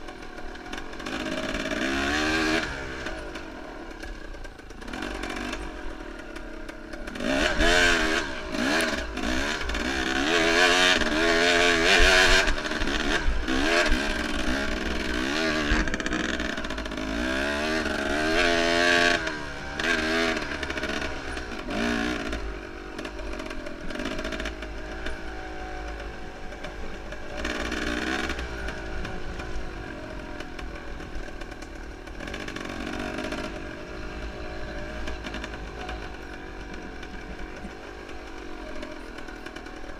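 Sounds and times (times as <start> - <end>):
motorcycle engine revving: 0.0 - 39.9
motorcycle rattling and knocking: 0.0 - 39.9.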